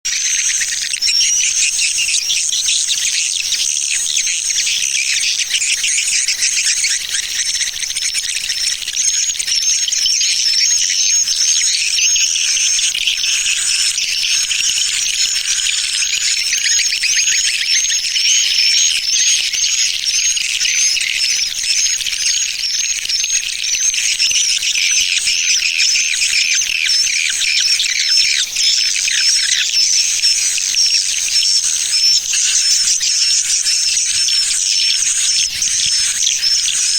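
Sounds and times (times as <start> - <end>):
swiftlets chirping and twittering: 0.1 - 36.9.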